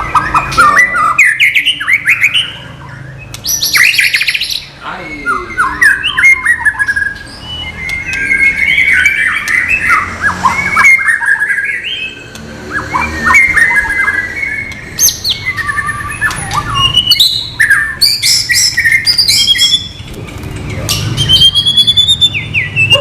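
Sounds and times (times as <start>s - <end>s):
bird singing varied song: 0.0s - 23.0s.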